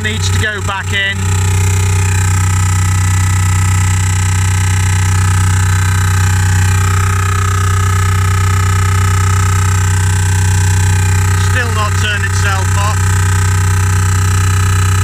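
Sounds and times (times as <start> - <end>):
loud low hum from speaker: 0.0 - 15.0
steady higher tones: 0.0 - 15.0.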